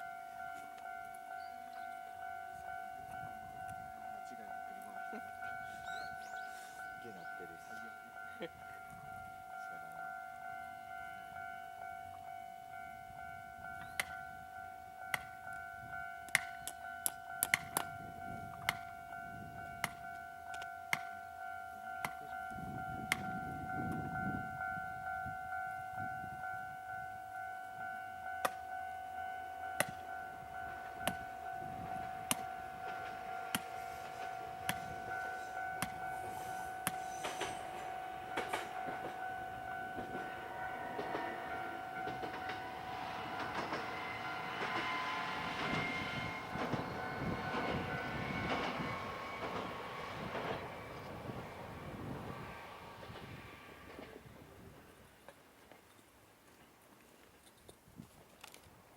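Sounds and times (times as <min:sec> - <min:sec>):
level-crossing warning bell: 0:00.0 - 0:54.2
railcar rumble: 0:00.0 - 0:56.9.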